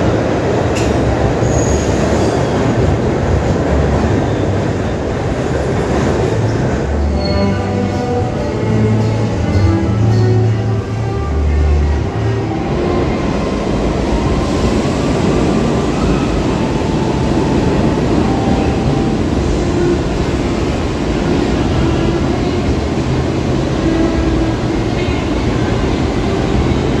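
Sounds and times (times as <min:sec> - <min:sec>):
subway train wheels on rails: 0:00.0 - 0:27.0.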